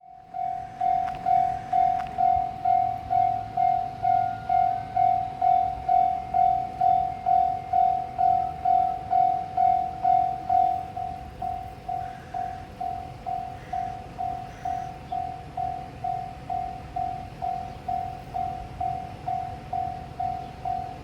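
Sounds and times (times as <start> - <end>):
level crossing warning bell: 0.0 - 21.0.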